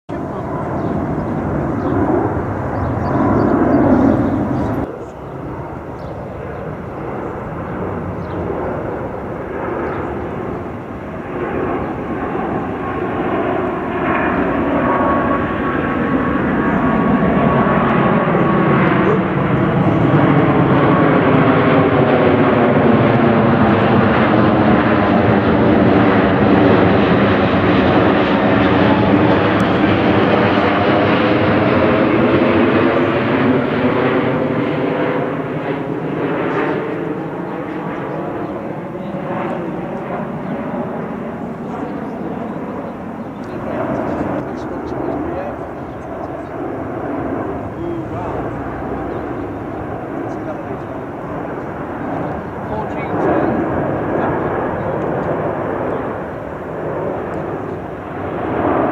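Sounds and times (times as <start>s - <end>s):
jet airliner flying by: 0.1s - 58.9s.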